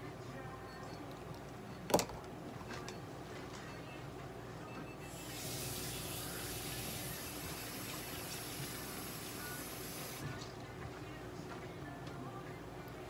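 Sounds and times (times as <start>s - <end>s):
low hum of room equipment: 0.0s - 13.0s.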